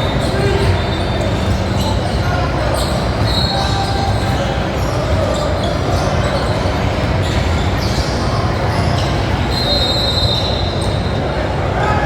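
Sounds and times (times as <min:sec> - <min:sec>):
sneaker squeaks: 0:00.0 - 0:11.3
crowd and court din: 0:00.0 - 0:12.0.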